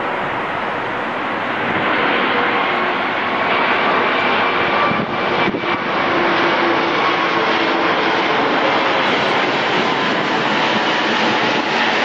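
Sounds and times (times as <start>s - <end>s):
jet rumble overhead: 0.0s - 12.0s.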